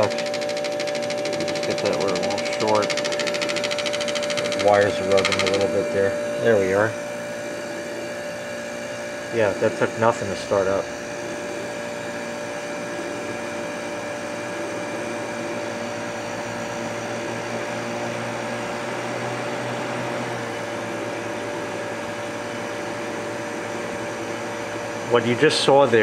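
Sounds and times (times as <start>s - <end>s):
dehumidifier humming: 0.0s - 26.0s.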